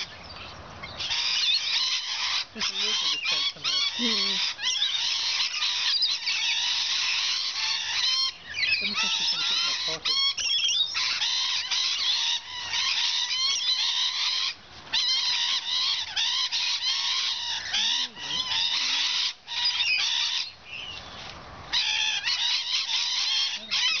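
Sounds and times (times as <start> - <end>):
parrots screeching and chattering: 0.0 - 24.0.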